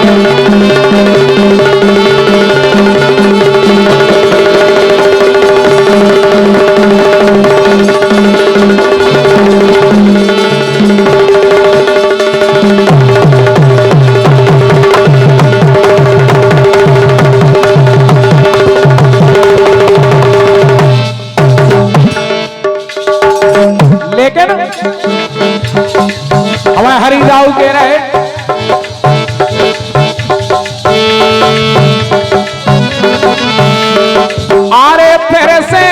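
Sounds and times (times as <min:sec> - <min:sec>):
hand drum beat: 0:00.0 - 0:35.4.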